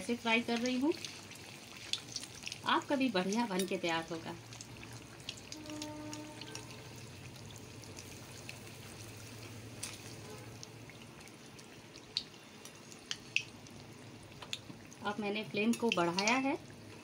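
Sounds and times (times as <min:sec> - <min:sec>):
batter sizzling in oil: 0:00.0 - 0:17.0
oil popping and crackling: 0:00.0 - 0:17.0.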